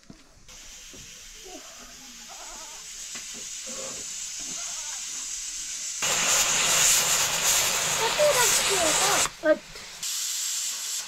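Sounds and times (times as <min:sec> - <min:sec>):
pressure cooker steam hissing: 0:00.5 - 0:11.0.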